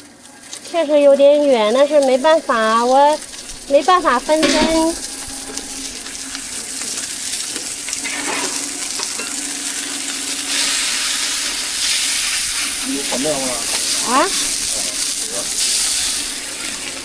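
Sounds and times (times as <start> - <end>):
cakes sizzling on a griddle: 0.0 - 17.0.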